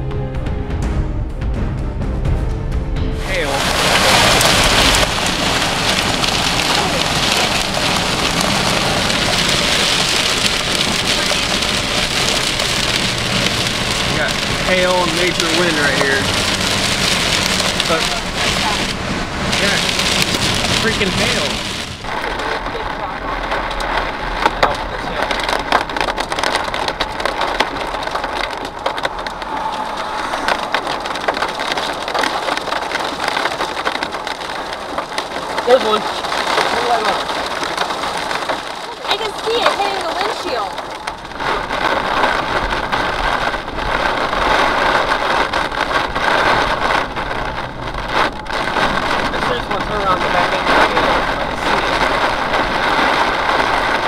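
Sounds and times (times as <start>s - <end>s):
road noise: 0.0s - 54.0s
rain and hail on car roof: 3.2s - 54.0s.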